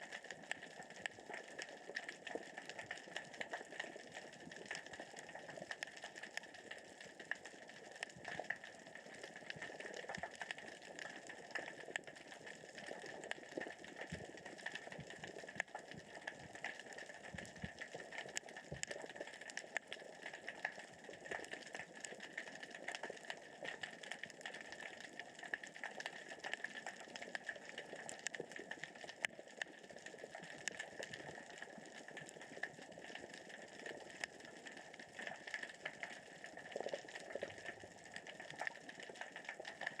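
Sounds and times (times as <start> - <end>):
underwater rocks rolling crackle: 0.0 - 40.0.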